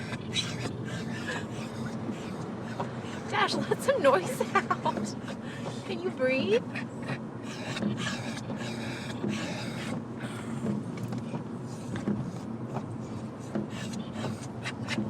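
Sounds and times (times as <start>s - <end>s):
car road noise hum: 0.0s - 15.0s
dog panting: 0.0s - 15.0s.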